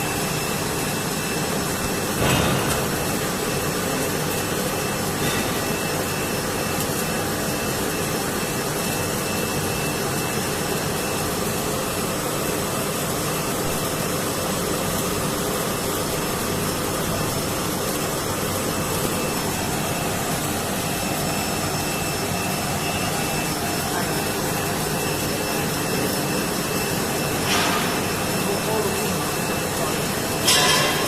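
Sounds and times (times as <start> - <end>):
welding machine running: 0.0 - 31.0.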